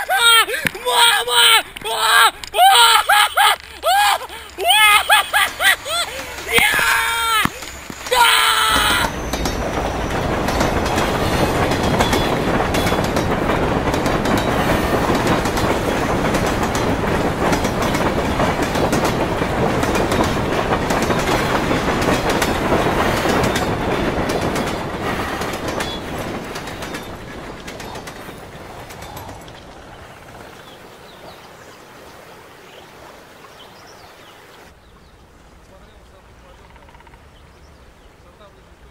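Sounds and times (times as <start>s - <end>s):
train rumbling over bridge: 0.0s - 31.6s
wheels clattering over rail joints: 0.1s - 31.5s.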